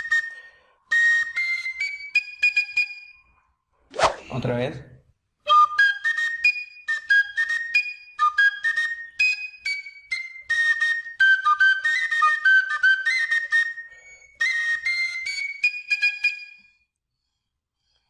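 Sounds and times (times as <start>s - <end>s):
cane flute melody: 0.0s - 3.4s, 5.4s - 16.9s.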